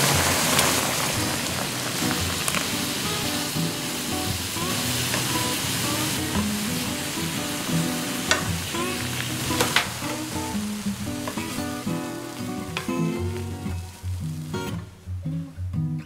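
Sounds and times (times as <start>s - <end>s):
water boiling and bubbling: 0.0s - 14.9s
plucked background music: 2.0s - 16.0s.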